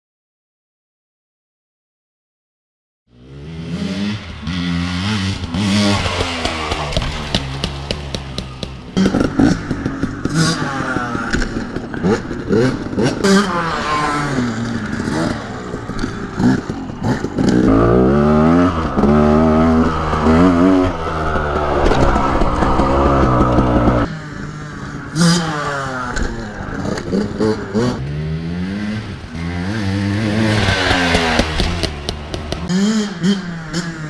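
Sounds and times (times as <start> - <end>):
dirt bike engine revving: 3.1 - 34.0.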